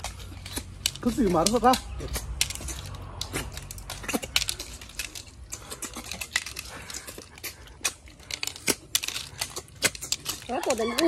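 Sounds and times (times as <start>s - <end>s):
snail shells clicking on plates: 0.0s - 11.0s.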